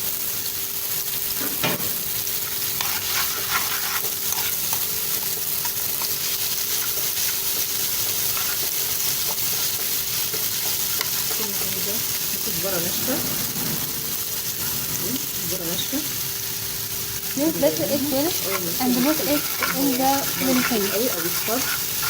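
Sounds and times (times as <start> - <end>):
garlic sizzling in butter: 0.0 - 22.0.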